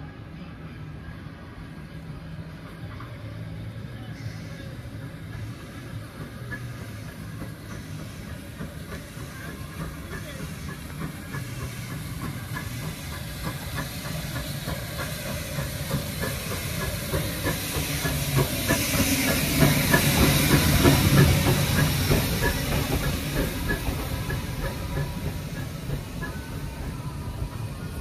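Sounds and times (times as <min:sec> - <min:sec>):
steam locomotive hissing: 0:00.1 - 0:28.0
wheels clicking on rail joints: 0:04.2 - 0:28.0.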